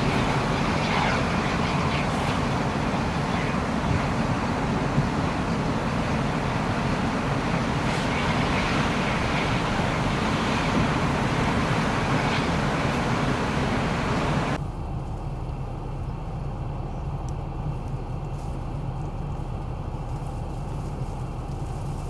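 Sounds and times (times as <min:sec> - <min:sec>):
low vehicle rumble: 0:00.0 - 0:22.0
wind and road noise: 0:00.0 - 0:22.0.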